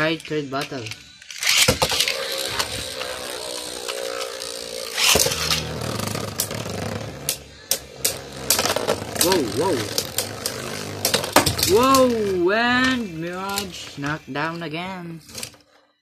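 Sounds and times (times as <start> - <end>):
spinning tops whirring and scraping: 0.0 - 15.8
spinning tops clacking: 0.1 - 15.6
ripcord launchers: 0.6 - 14.2.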